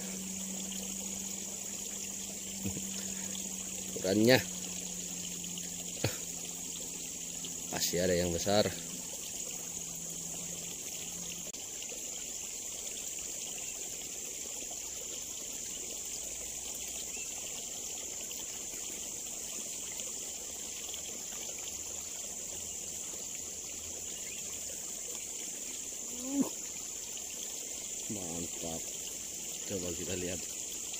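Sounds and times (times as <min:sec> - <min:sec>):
steady high-pitched hiss: 0:00.0 - 0:30.9
water trickling: 0:00.0 - 0:30.9.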